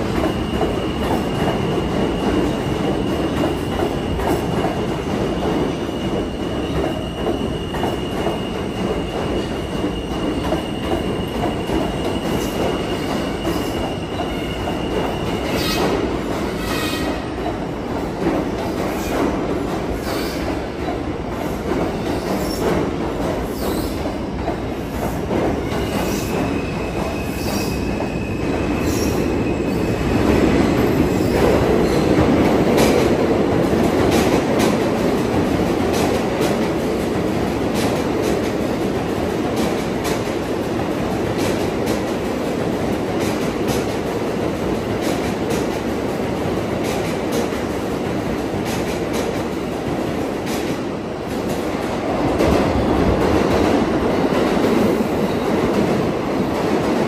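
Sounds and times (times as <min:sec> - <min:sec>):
subway train rumbling: 0:00.0 - 0:57.0.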